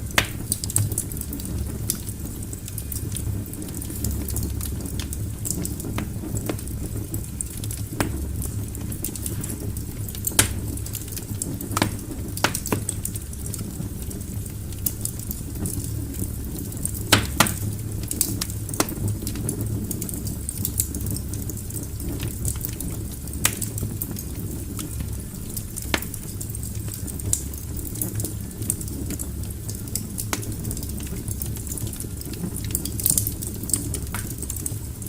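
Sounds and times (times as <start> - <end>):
burning logs crackling and popping: 0.0 - 35.0
low rumble of flames: 0.0 - 35.0.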